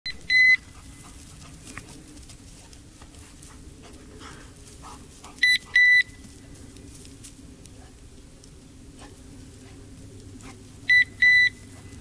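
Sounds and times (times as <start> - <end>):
low outdoor noise: 0.1 - 12.0.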